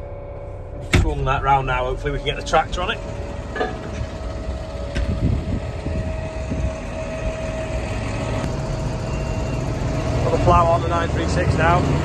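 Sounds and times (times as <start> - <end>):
constant whine: 0.0 - 12.0
tractor engine rumbling: 0.0 - 12.0.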